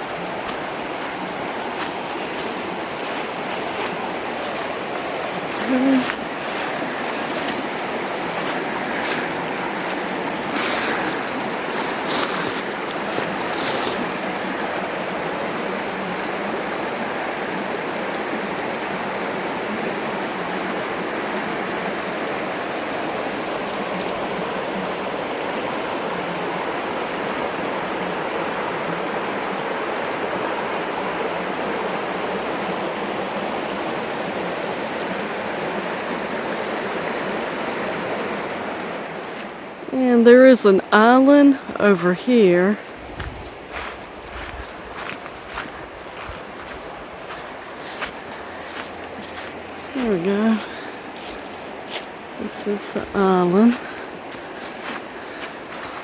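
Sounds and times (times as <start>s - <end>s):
flowing river water: 0.0s - 56.0s.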